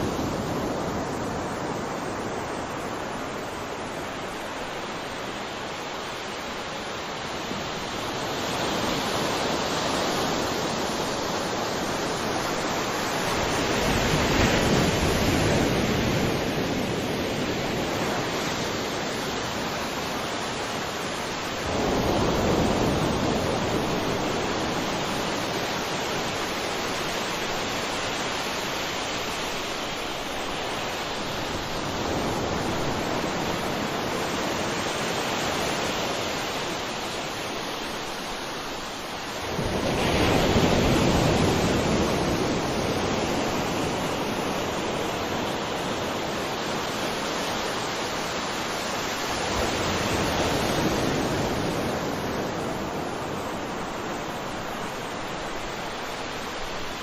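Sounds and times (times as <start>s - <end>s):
ocean surf waves: 0.0s - 57.0s.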